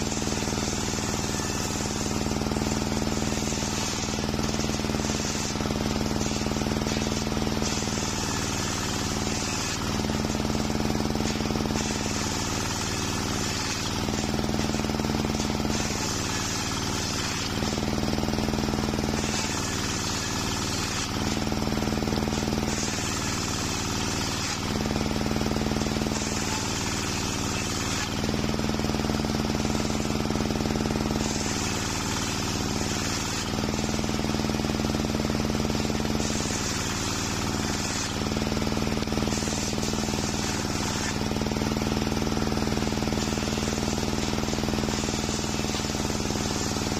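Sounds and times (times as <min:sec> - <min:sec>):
circular saw blade humming: 0:00.0 - 0:46.9
saw cutting wood: 0:00.0 - 0:46.9.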